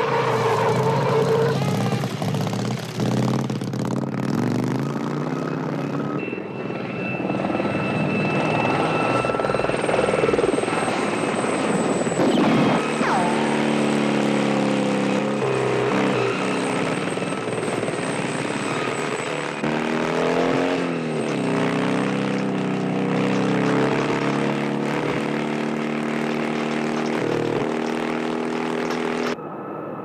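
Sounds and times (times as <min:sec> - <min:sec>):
vehicle engine: 0:00.0 - 0:29.5
helicopter rotor and engine: 0:05.9 - 0:30.0.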